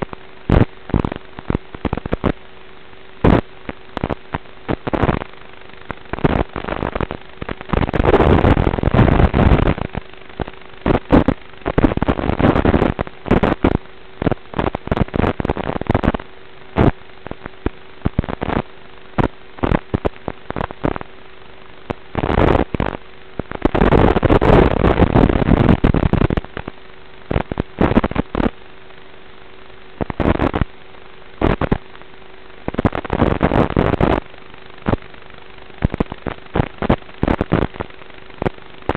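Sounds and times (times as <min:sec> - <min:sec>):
crackling static bursts: 0:00.0 - 0:38.9
steady hum and hiss: 0:00.0 - 0:38.9.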